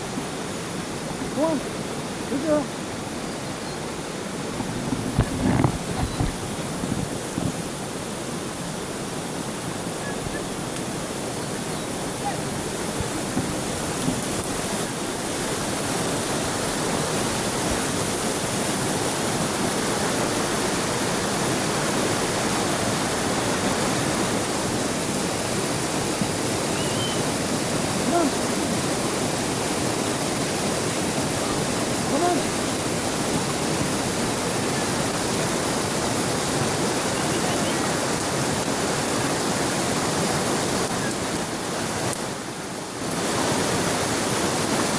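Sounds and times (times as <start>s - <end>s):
rushing stream water: 0.0s - 44.9s.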